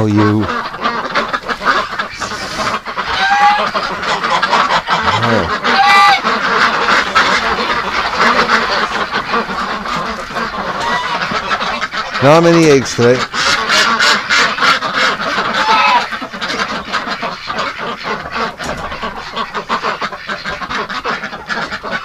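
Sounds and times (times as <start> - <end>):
geese and ducks honking: 0.0 - 22.0.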